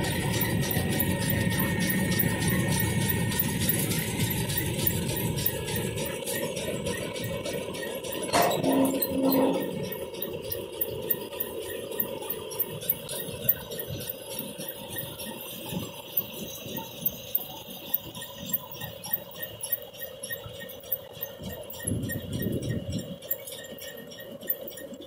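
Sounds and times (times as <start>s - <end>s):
machinery humming: 0.0s - 25.0s
metallic ticking and jingling: 0.0s - 25.0s.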